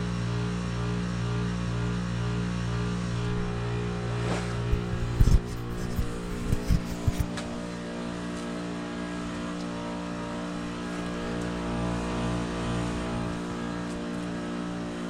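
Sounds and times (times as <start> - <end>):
heat pump compressor hum: 0.0 - 15.0.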